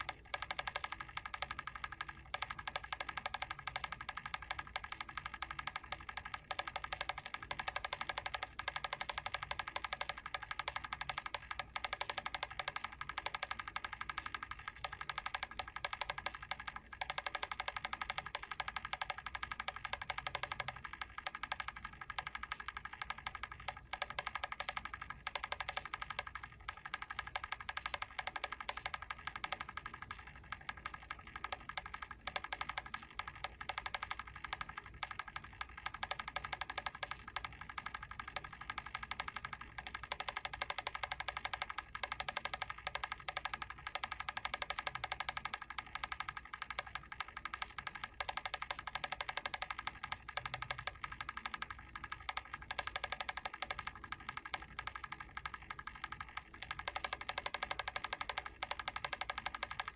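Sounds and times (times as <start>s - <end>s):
timer switch ticking: 0.0s - 59.9s.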